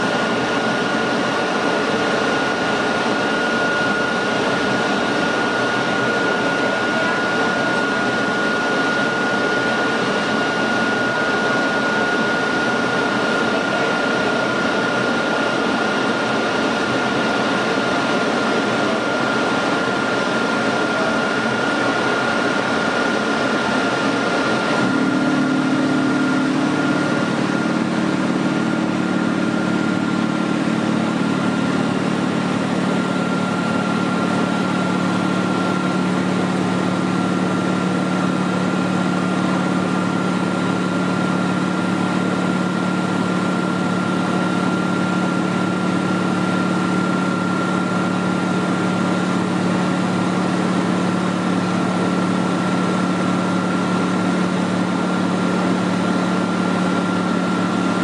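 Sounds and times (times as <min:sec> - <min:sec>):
diesel locomotive engine idling: 0:00.0 - 0:58.0
locomotive humming with high whine: 0:00.0 - 0:58.0.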